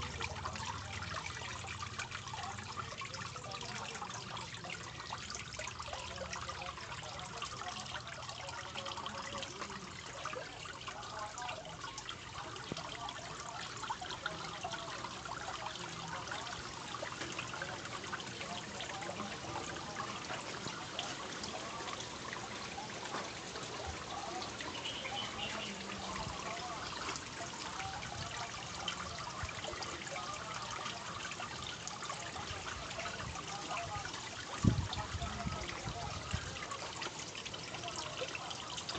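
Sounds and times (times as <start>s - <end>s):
water trickling into a fish tank: 0.0s - 38.9s.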